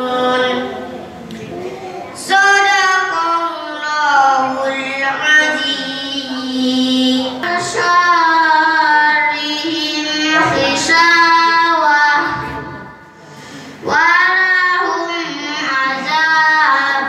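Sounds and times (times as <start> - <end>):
boy reciting melodically over pa: 0.0 - 17.0.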